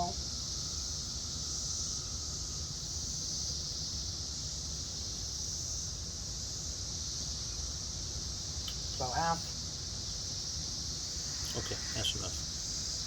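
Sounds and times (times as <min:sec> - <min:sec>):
insects chirping chorus: 0:00.0 - 0:13.0.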